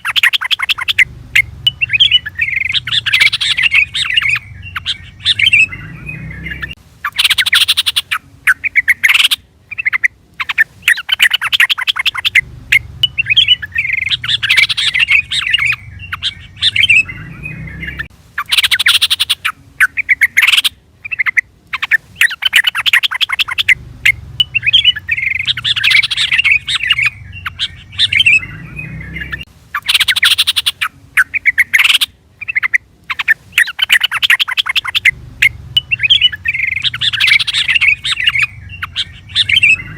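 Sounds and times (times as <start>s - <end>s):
bird chirping phrases: 0.0s - 39.9s
bird harsh chattering: 0.0s - 39.9s.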